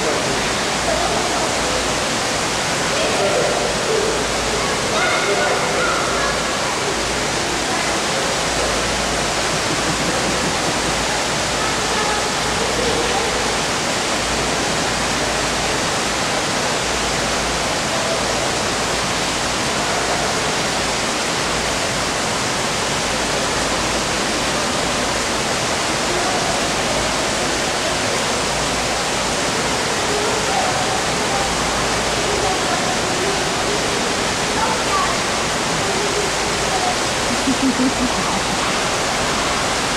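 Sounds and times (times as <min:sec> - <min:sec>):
faint voices: 0:00.0 - 0:39.9
running water rushing: 0:00.0 - 0:39.9.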